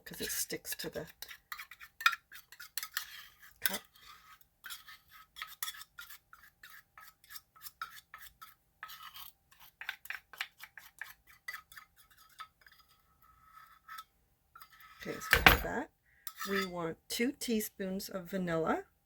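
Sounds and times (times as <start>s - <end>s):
spoon scraping a measuring cup: 0.0s - 15.7s, 16.3s - 16.8s.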